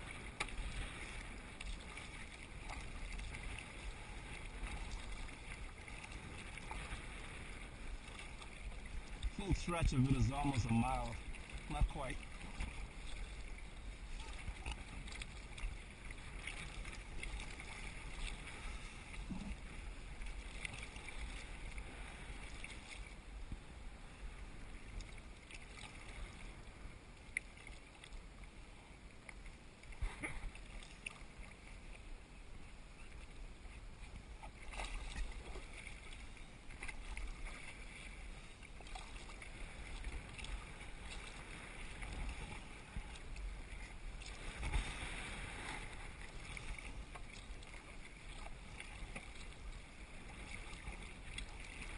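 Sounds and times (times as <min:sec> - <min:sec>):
paddle blades dipping: 0:00.0 - 0:51.9
water splashing against hull: 0:00.0 - 0:51.9.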